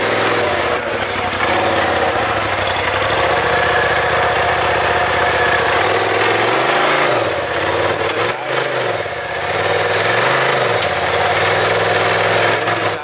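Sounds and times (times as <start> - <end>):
turbocharged engine idling: 0.0 - 13.0.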